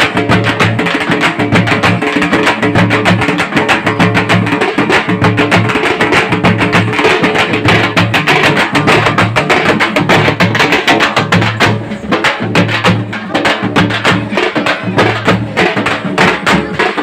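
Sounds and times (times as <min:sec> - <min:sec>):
fast loud drumming: 0:00.0 - 0:17.0.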